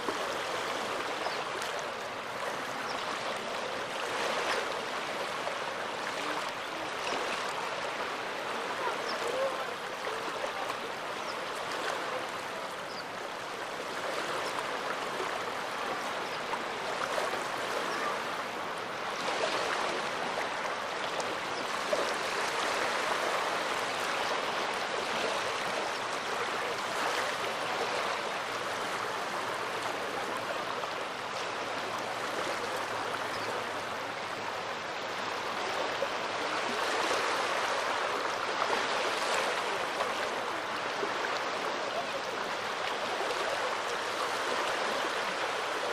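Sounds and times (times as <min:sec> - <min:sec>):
small waves washing onto shore: 0:00.0 - 0:45.9.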